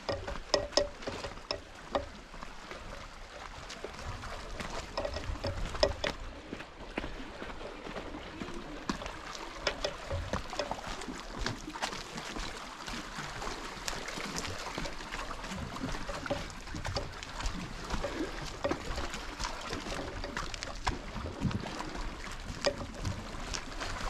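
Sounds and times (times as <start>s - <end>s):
water splashes and trickles: 0.0s - 24.0s
waves lapping against rocks: 0.0s - 24.0s.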